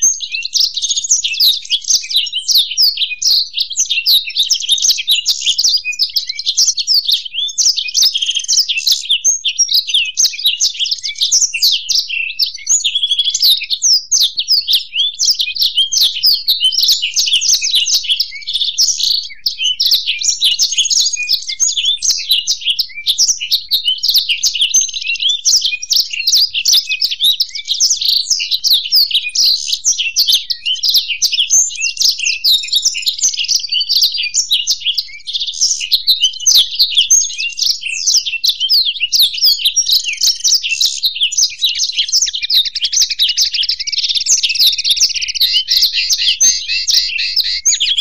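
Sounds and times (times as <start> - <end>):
birds twittering song: 0.0 - 48.0.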